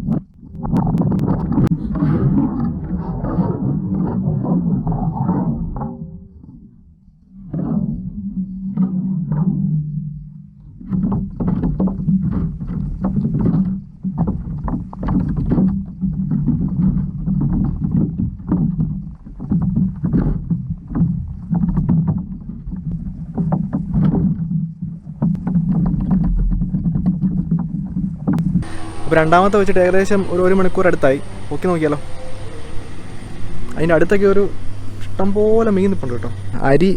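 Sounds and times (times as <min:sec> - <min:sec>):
crackling clicks and knocks: 0:00.0 - 0:06.0, 0:08.7 - 0:36.9
low underwater hum: 0:00.0 - 0:36.9.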